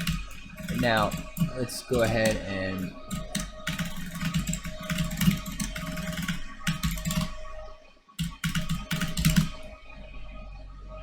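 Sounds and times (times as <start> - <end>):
computer keyboard typing: 0.0 - 7.4, 8.2 - 9.7.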